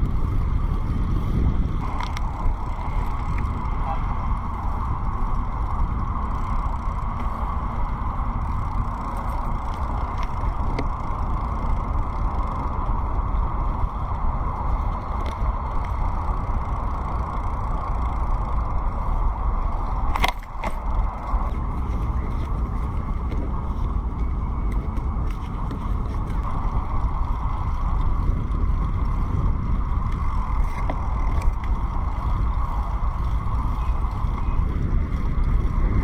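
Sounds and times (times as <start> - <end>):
bicycle rolling noise: 0.0 - 36.0
wind on microphone: 0.0 - 36.0.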